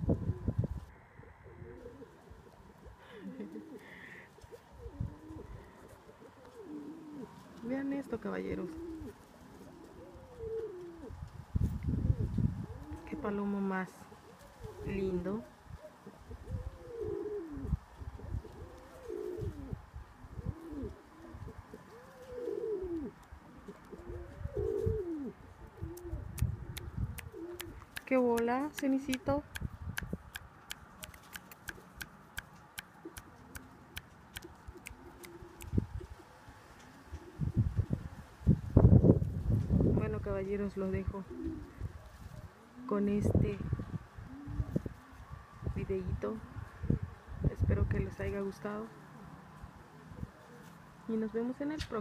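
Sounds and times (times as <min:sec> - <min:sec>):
pigeon cooing: 0:00.0 - 0:28.2, 0:29.1 - 0:38.2, 0:41.1 - 0:45.4, 0:49.0 - 0:51.1.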